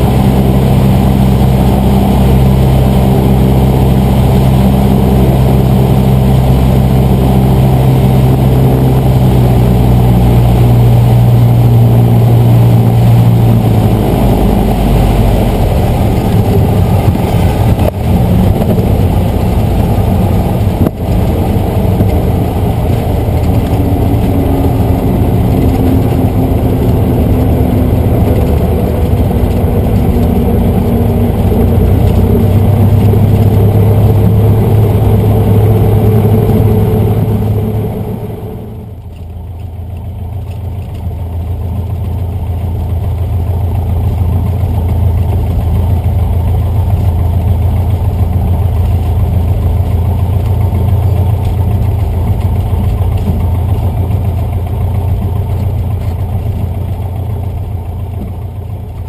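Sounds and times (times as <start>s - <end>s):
light aircraft engine running: 0.0s - 59.0s.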